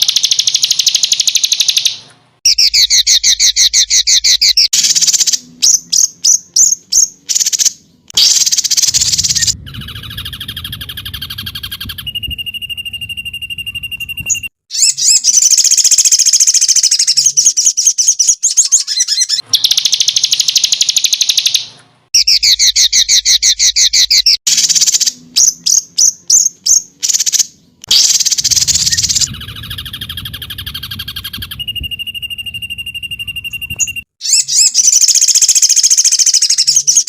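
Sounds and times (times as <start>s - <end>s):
short sharp bird chips: 0.0s - 37.0s
songbird trills and whistles: 0.0s - 37.0s.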